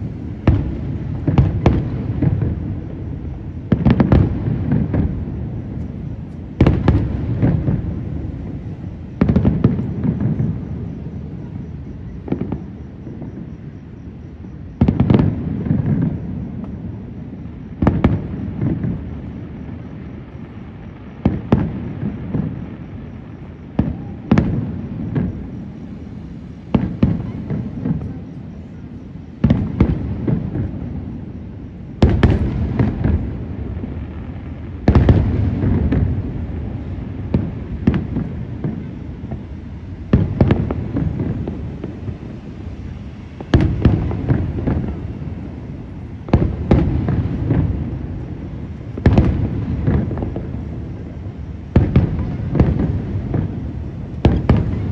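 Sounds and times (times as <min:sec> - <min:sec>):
fireworks bursting with rumble: 0:00.0 - 0:54.9.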